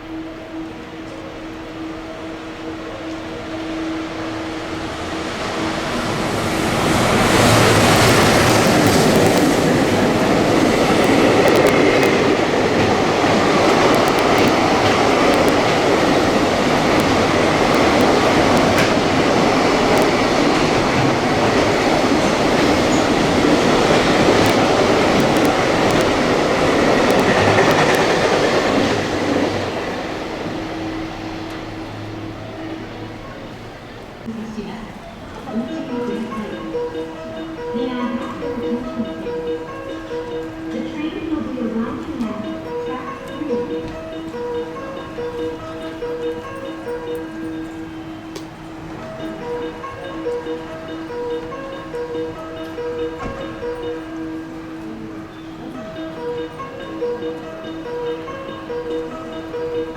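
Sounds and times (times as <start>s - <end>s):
train passing: 0.0s - 59.9s
train wheels clattering on rails: 3.1s - 32.0s, 37.6s - 57.5s.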